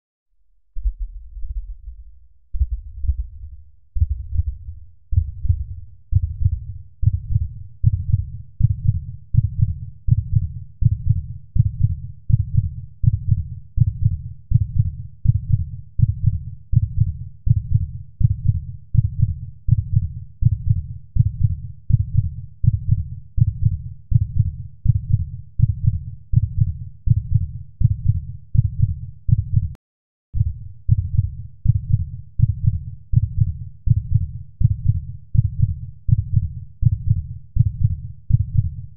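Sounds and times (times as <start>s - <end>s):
heartbeat thumps: 0.8s - 29.8s, 30.4s - 38.8s.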